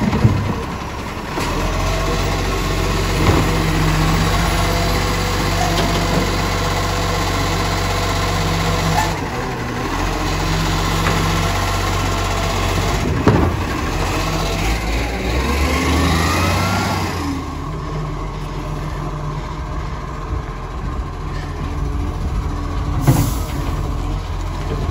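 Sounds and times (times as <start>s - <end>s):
garbage truck diesel engine running: 0.0s - 24.9s.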